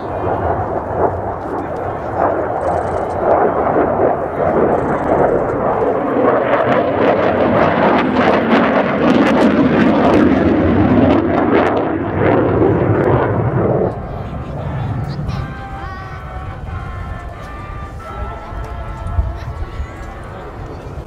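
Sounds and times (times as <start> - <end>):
jet engines passing overhead: 0.0 - 21.0.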